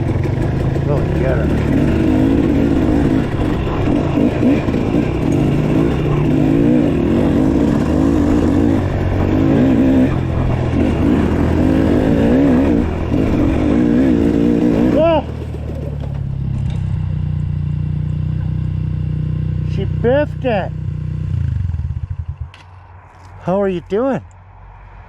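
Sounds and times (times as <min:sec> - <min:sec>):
dirt bike engine revving: 0:00.0 - 0:22.5.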